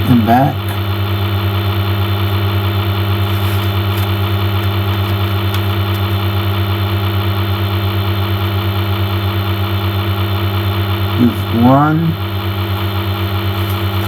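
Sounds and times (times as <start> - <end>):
loud electrical hum: 0.0 - 14.0.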